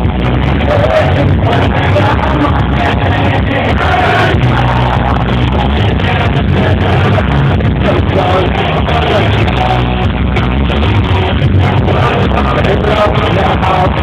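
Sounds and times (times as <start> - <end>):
punk rock band playing live: 0.0 - 14.0.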